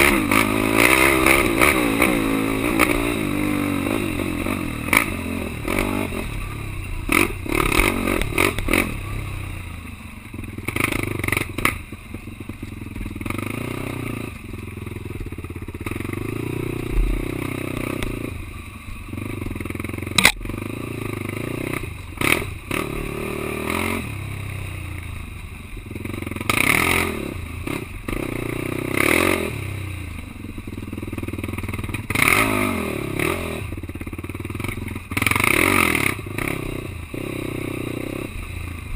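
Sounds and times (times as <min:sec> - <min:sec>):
quad bike engine revving: 0:00.0 - 0:09.8, 0:10.4 - 0:25.1, 0:25.8 - 0:38.9.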